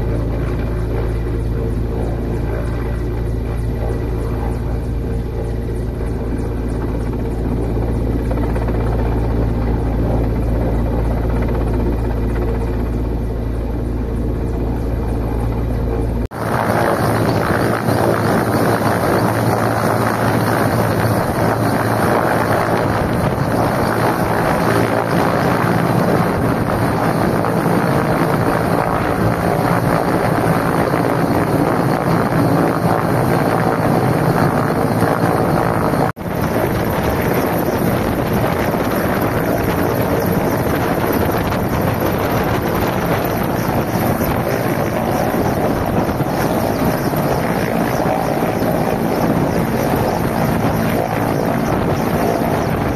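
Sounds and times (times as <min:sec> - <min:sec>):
helicopter rotor drone: 0:00.0 - 0:52.9.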